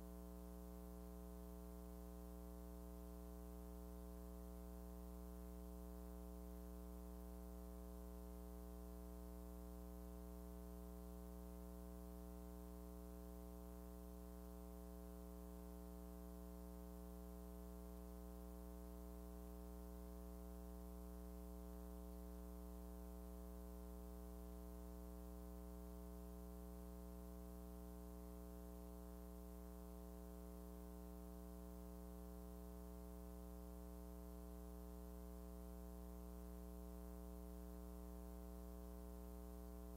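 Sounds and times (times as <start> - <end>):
faint low electrical hum: 0.0 - 39.9.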